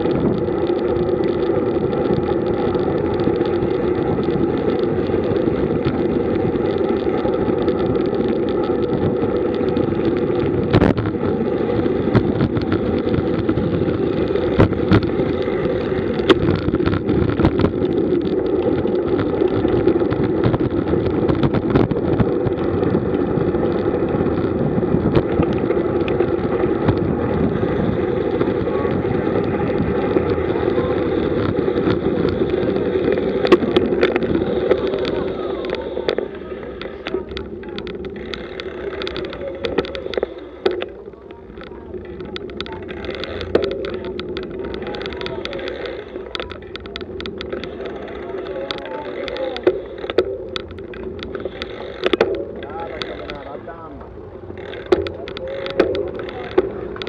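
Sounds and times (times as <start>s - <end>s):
sharp clicks and knocks: 0.0s - 57.0s
wind and road rumble: 0.0s - 57.0s.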